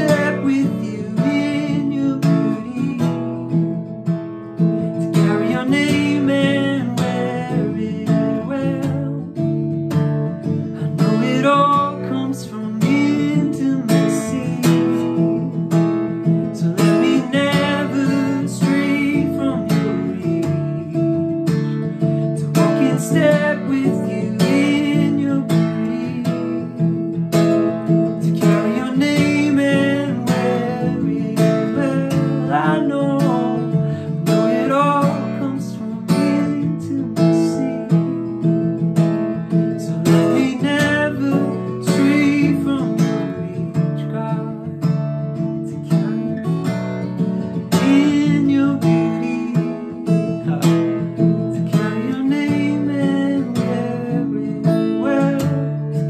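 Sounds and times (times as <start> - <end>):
acoustic guitar strummed: 0.0 - 56.0
man singing: 0.0 - 56.0.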